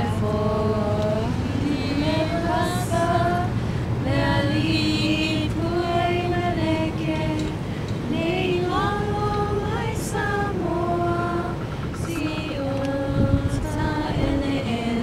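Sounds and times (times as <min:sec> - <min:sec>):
women singing without instruments: 0:00.0 - 0:15.0.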